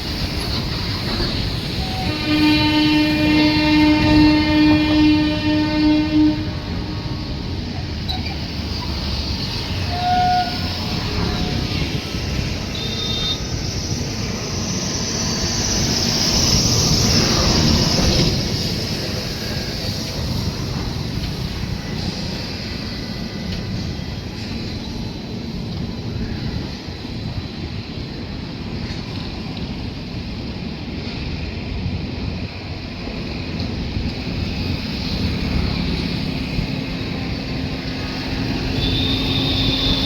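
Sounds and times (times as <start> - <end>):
train rumbling and rushing: 0.0 - 40.0.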